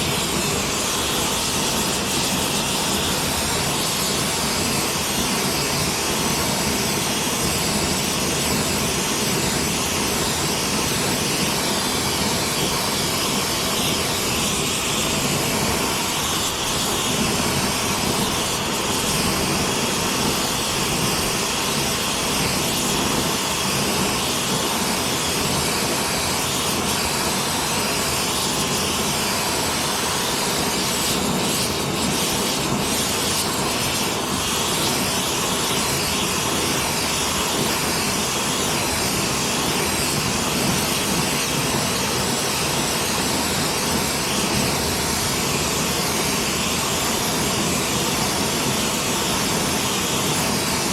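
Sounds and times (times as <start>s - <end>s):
gas torch flame hissing: 0.0s - 50.9s.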